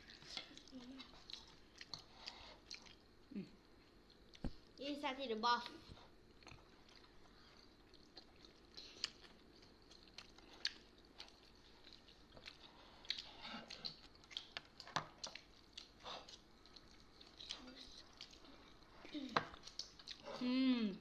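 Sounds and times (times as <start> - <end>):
people chewing: 0.0 - 4.8, 5.6 - 21.0.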